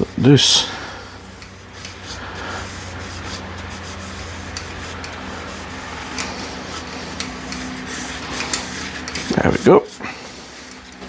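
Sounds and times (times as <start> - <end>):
lathe motor hum: 0.0 - 11.0
rubbing hiss on spinning wood: 0.0 - 11.0.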